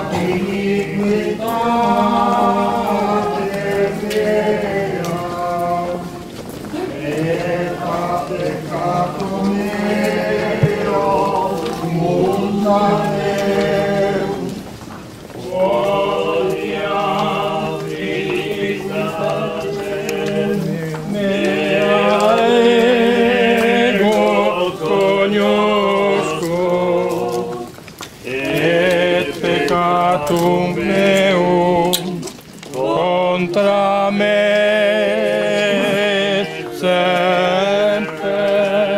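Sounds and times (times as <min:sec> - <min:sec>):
group singing a hymn: 0:00.0 - 0:38.9.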